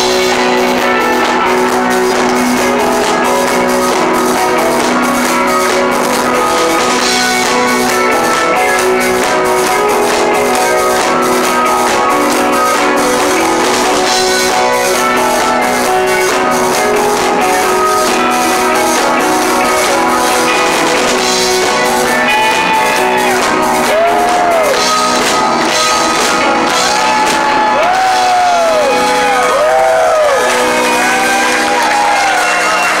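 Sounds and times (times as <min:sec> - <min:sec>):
lead guitar bending notes: 0:00.0 - 0:33.0
rock band playing: 0:00.0 - 0:33.0.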